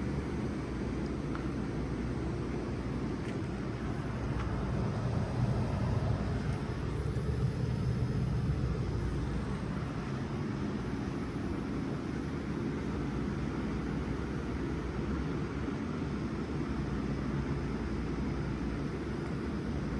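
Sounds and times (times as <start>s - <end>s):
heat pump low rumble: 0.0s - 19.9s.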